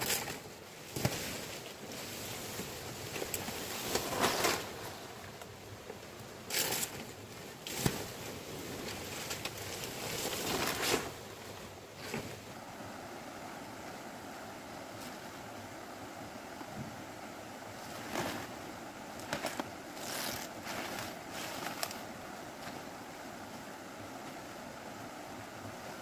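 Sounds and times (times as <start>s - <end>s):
palm fronds rustling and swishing: 0.0s - 13.5s, 14.7s - 16.0s, 16.6s - 26.0s.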